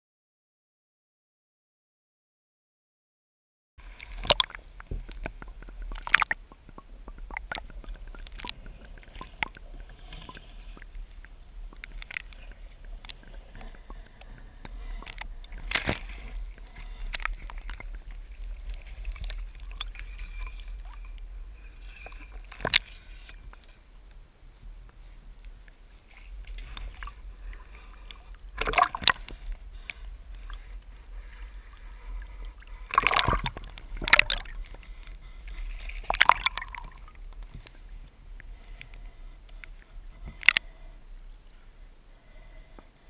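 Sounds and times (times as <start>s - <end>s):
steady low rumble: 3.8s - 42.6s
water sloshing and gurgling: 3.8s - 43.0s.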